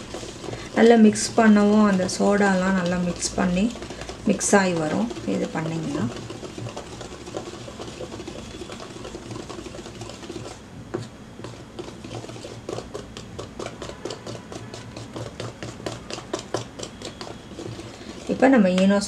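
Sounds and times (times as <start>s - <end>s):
whisk swishing in batter: 0.0s - 19.0s
whisk wires clicking on bowl: 0.0s - 19.0s.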